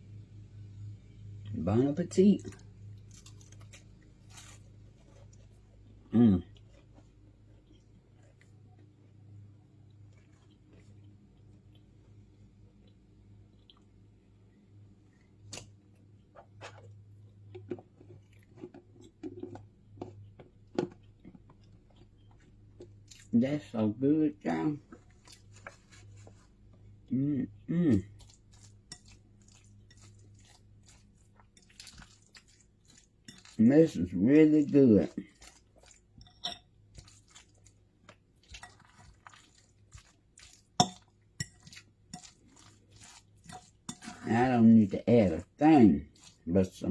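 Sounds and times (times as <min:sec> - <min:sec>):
person chewing crunchy food: 0:02.4 - 0:09.2, 0:09.8 - 0:14.0, 0:15.4 - 0:23.4, 0:24.8 - 0:46.5.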